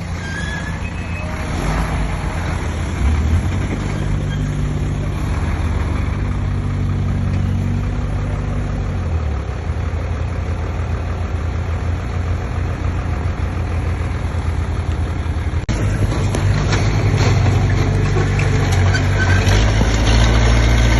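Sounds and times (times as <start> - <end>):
bulldozer diesel engine running: 0.0 - 20.9.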